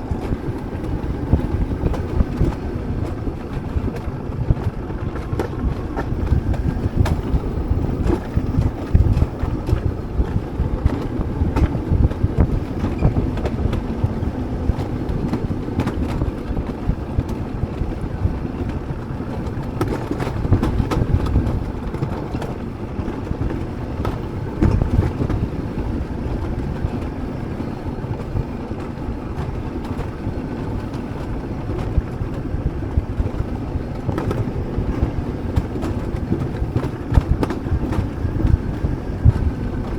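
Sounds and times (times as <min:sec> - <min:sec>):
sled rumbling on metal rails: 0:00.0 - 0:39.9
wind buffeting microphone: 0:00.0 - 0:39.9.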